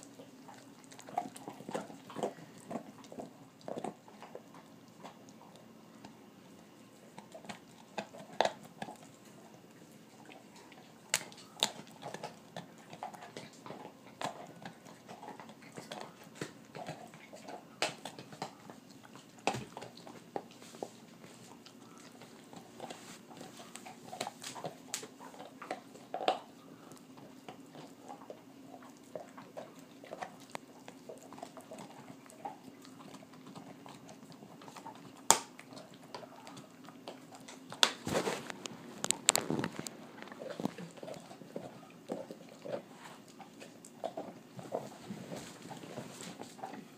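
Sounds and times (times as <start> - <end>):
teeth cracking on bone: 0.0 - 6.2, 7.0 - 20.6, 21.5 - 46.9
dog gnawing a bone: 0.0 - 46.9.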